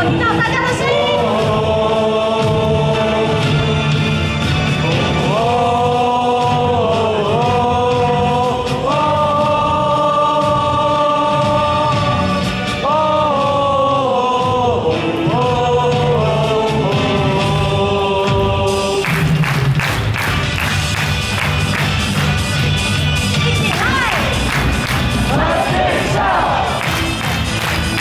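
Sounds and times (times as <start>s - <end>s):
crowd singing along: 0.0s - 19.8s, 23.5s - 28.0s
amplified music: 0.0s - 28.0s.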